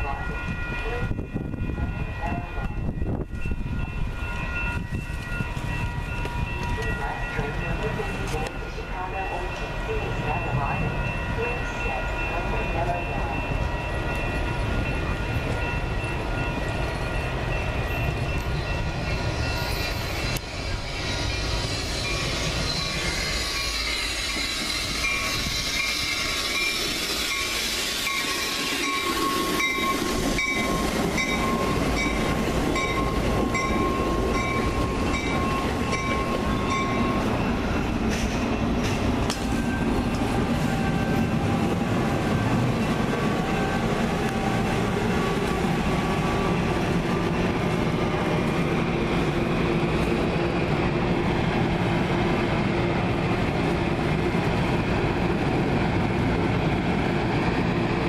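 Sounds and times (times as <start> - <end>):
train bell ringing: 0.0 - 51.0.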